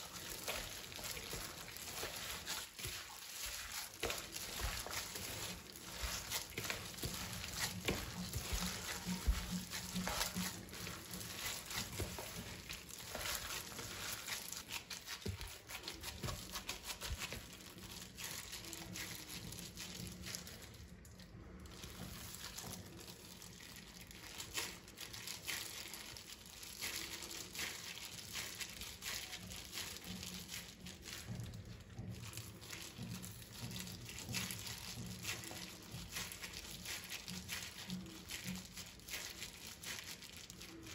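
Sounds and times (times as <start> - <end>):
ground meat squelching: 0.0 - 20.9, 21.6 - 40.9
plastic glove crinkling: 0.0 - 40.9.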